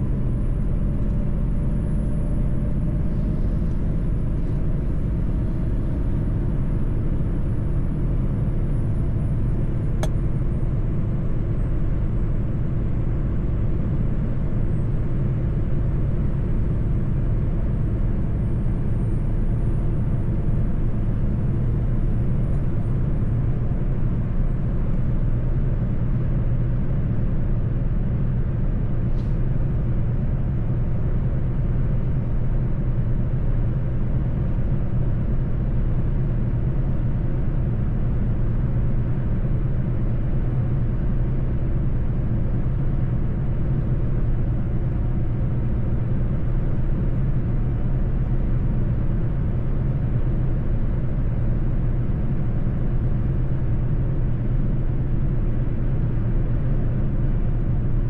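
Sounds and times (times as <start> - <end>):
road rumble: 0.0 - 58.0.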